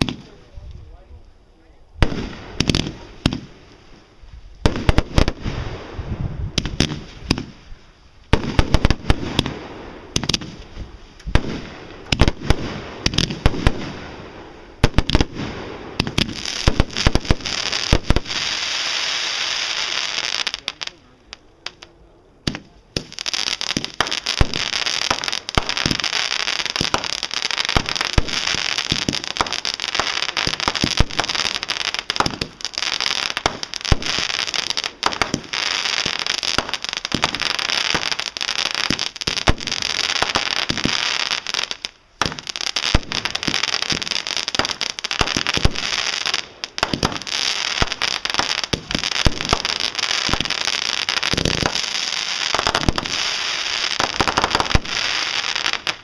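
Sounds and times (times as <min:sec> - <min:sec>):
fireworks banging: 0:00.0 - 0:01.1, 0:02.0 - 0:56.0
fireworks crackling and hissing: 0:00.0 - 0:56.0.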